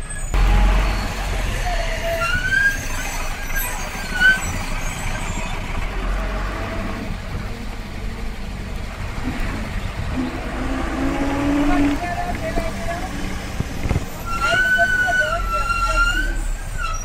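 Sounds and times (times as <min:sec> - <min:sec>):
bus engine rumbling: 0:00.0 - 0:17.0
traffic noise: 0:00.0 - 0:17.0.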